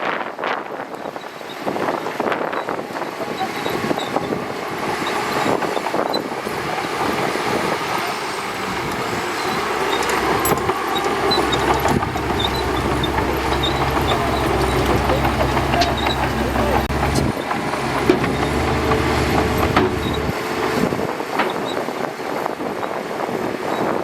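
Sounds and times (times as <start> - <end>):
bulldozer diesel engine running: 1.0 - 23.9.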